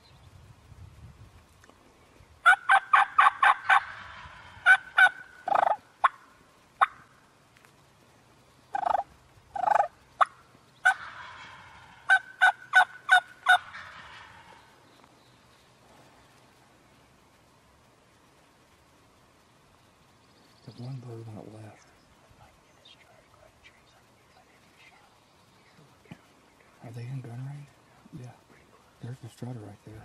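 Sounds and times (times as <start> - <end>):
wild turkeys calling: 2.4 - 7.3, 8.4 - 30.0.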